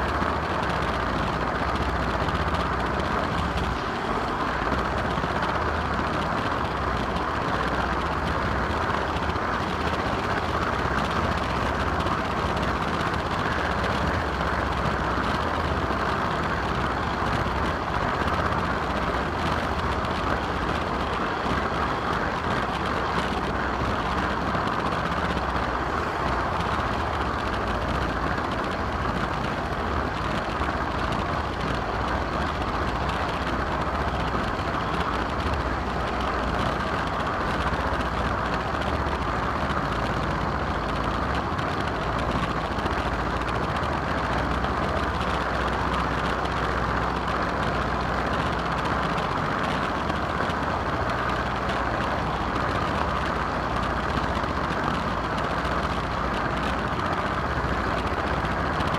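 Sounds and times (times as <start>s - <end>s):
model train wheels rolling on track: 0.0s - 58.9s.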